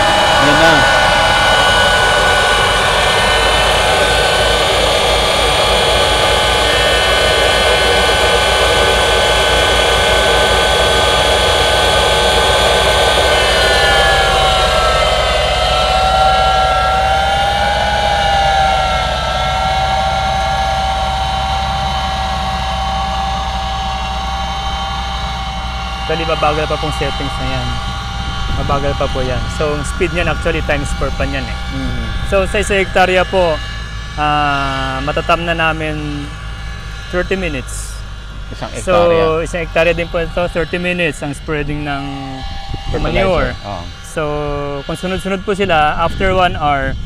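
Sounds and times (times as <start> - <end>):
tractor with air fan whine: 0.0 - 47.0.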